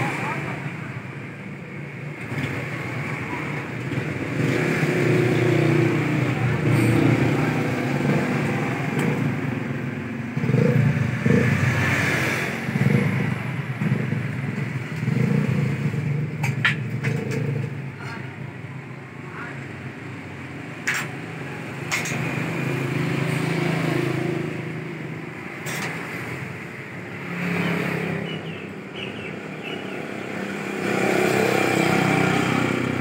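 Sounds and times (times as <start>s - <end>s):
vehicle engines passing: 0.0s - 33.0s.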